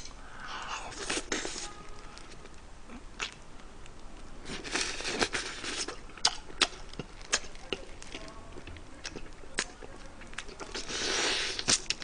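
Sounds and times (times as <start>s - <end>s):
wet crunching of chewing: 0.0s - 3.4s, 4.4s - 12.0s.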